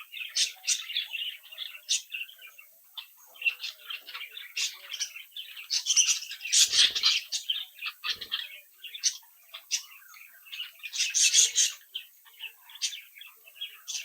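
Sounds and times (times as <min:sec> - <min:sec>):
budgerigars chirping and warbling: 0:00.0 - 0:14.0.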